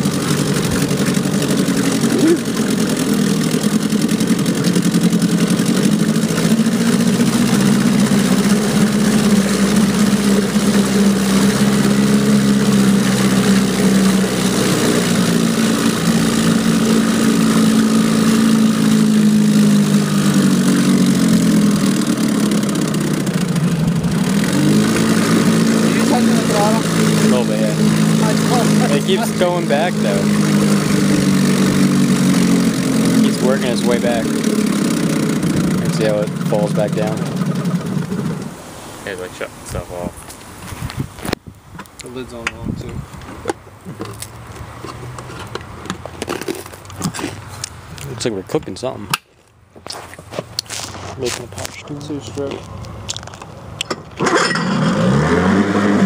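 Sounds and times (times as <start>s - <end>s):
outboard engine running: 0.0s - 40.0s, 50.7s - 56.0s.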